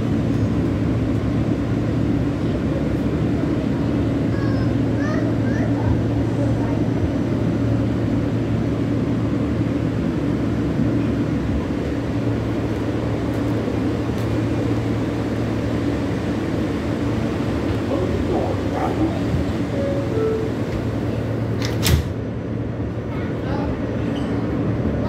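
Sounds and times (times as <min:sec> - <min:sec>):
subway car rumbling: 0:00.0 - 0:25.0.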